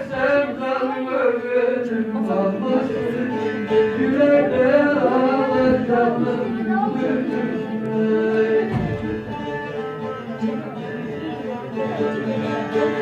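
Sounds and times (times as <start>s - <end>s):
plucked lute melody: 0.0s - 13.0s.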